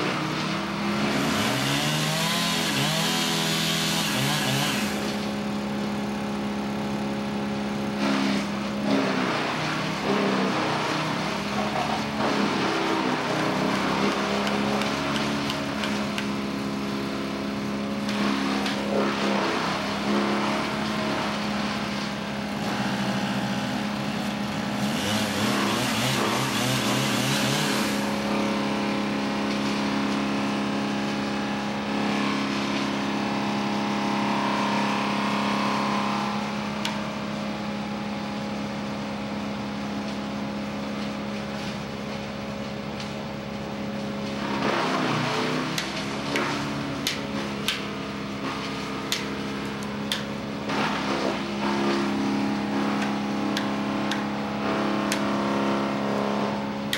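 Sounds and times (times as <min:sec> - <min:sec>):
wood chipper engine running: 0:00.0 - 0:56.9
wood chipper grinding material: 0:00.0 - 0:56.9.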